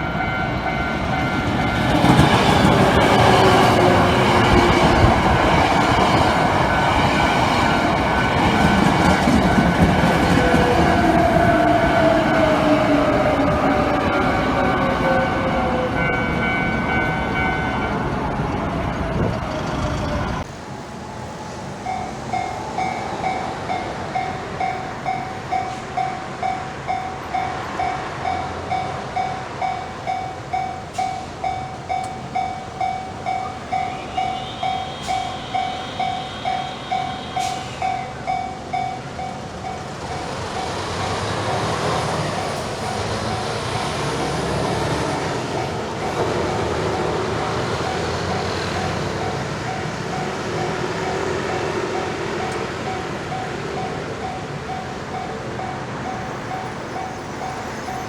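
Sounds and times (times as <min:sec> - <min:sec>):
level-crossing warning bell: 0:00.0 - 0:19.0, 0:20.4 - 0:58.0
train passing with motor whine: 0:00.0 - 0:58.0.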